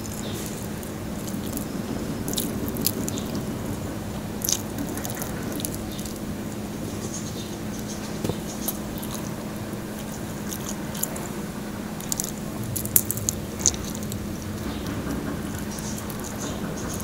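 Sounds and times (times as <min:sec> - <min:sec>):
chewing with crunches: 0:00.0 - 0:17.0
steady low hum: 0:00.0 - 0:17.0.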